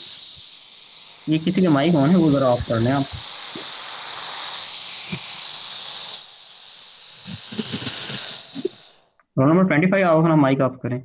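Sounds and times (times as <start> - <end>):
high-pitched microphone hiss: 0.0 - 11.0.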